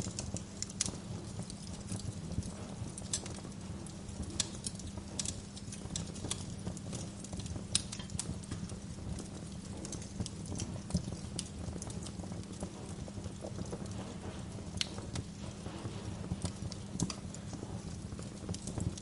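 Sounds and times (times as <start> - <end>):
low background hum: 0.0 - 19.0
wood fire crackling: 0.0 - 19.0.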